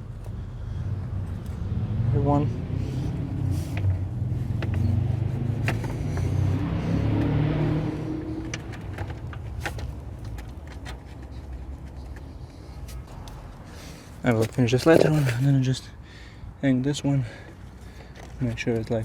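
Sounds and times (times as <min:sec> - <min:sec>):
vehicle engine rumble passing: 0:00.0 - 0:15.6.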